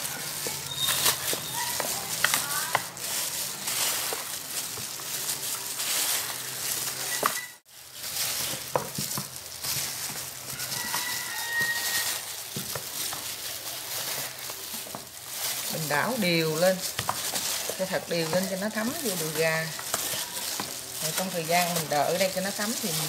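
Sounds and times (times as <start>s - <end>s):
wet squelching of mixed chicken: 0.0s - 23.0s.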